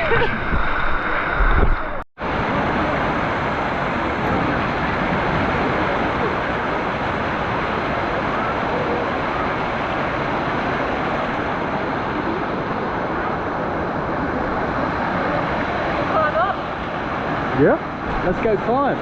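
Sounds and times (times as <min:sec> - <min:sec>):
waterfall rushing and crashing: 0:00.0 - 0:19.0.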